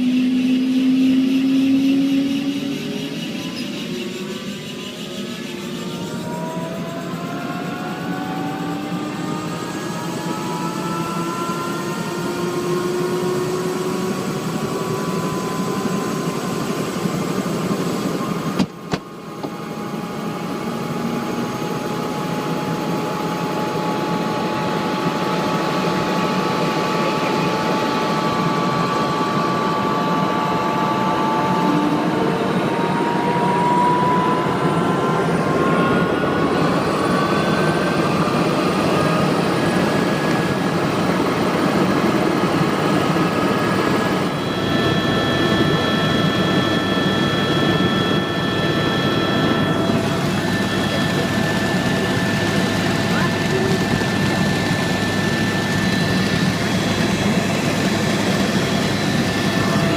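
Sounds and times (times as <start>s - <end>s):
helicopter turbine and rotor: 0.0s - 59.9s.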